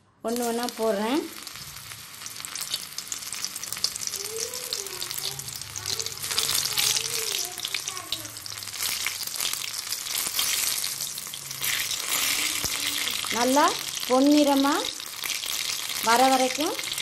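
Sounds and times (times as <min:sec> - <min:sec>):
chicken deep-frying in oil: 0:00.4 - 0:17.0.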